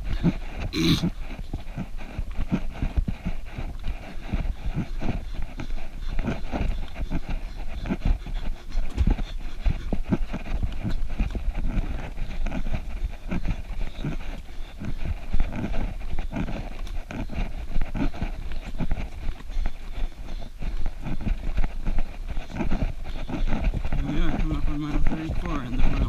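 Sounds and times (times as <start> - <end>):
runner breathing: 0.0 - 26.0.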